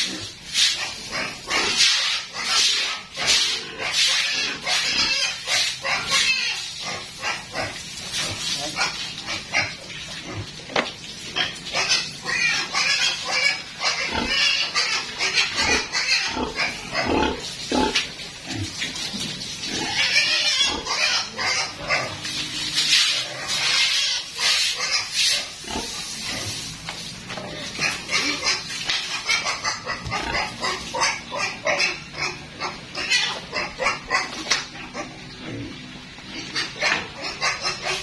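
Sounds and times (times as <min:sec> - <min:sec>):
pigs squealing and grunting: 0:00.0 - 0:26.7, 0:27.3 - 0:38.0.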